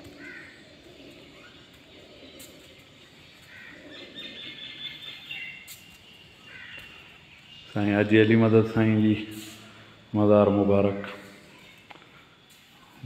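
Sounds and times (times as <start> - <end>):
birds chirping: 0.0 - 13.0
faint outdoor background noise: 0.0 - 13.0.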